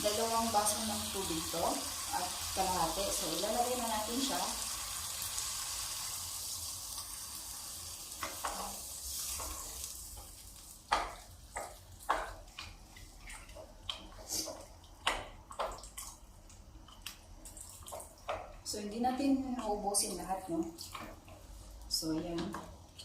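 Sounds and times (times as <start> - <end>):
stew sizzling in a pot: 0.0 - 23.0.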